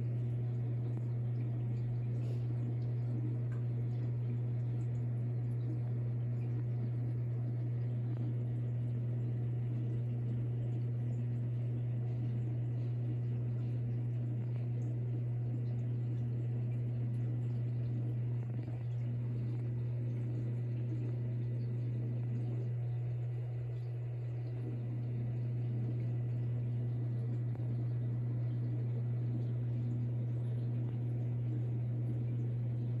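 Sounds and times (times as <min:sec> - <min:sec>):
aquarium equipment hum: 0:00.0 - 0:33.0.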